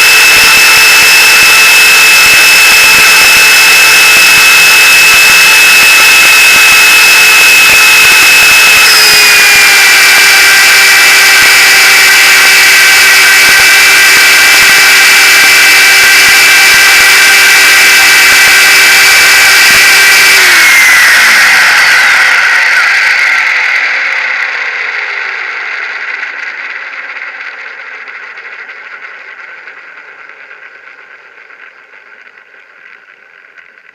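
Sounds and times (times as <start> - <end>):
electric rc helicopter whine: 0.0 - 33.9.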